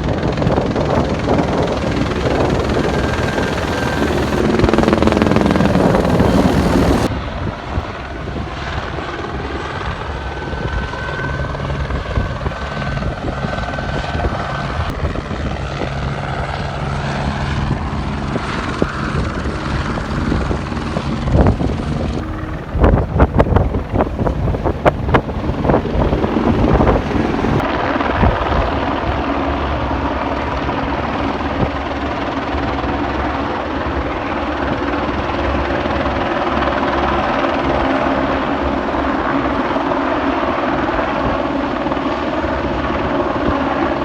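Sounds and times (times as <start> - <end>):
helicopter engine and rotor: 0.0 - 44.0.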